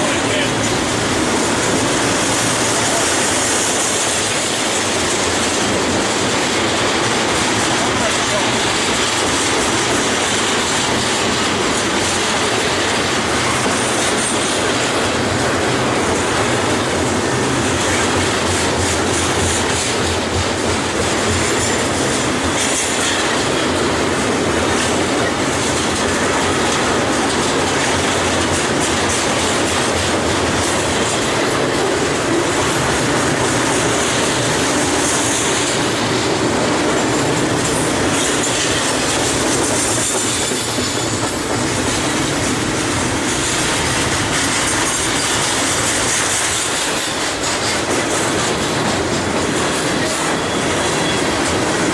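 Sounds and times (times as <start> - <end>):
freight train wheels rumbling: 0.0 - 51.9
train wheel squeal: 0.0 - 51.9.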